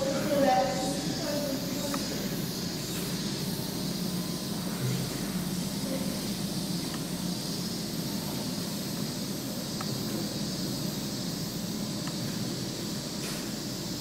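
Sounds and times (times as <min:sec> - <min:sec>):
even hiss: 0:00.0 - 0:14.0
steady low hum: 0:00.0 - 0:14.0.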